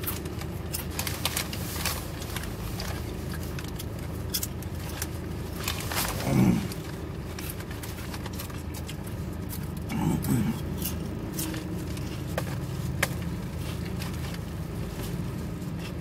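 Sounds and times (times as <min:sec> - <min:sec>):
man chewing food: 0:00.0 - 0:16.0
steady low hum: 0:00.0 - 0:16.0.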